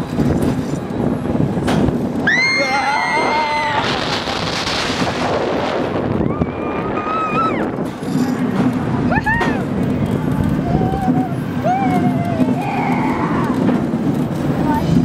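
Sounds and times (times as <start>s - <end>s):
roller coaster rumbling on track: 0.0s - 15.0s
rushing wind: 0.0s - 15.0s.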